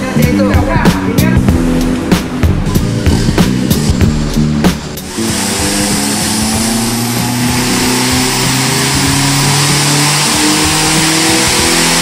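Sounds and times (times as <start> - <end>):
background music: 0.0 - 12.0
diesel engine roaring: 0.0 - 12.0.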